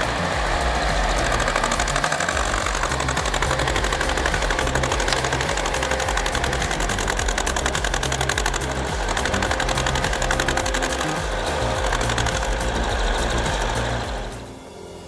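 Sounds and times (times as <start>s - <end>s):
engines running hard: 0.0s - 14.5s.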